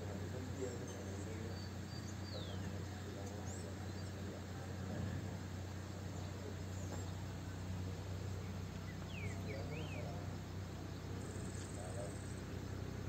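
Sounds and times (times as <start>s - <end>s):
steady low hum: 0.0s - 13.0s
bird chirps: 0.5s - 4.3s, 6.1s - 13.0s.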